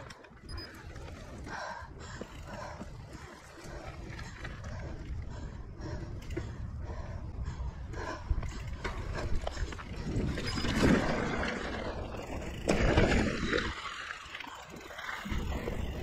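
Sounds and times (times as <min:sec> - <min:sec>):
bike rattling over bumps: 0:00.0 - 0:16.0
bike tyres on dirt: 0:00.0 - 0:16.0.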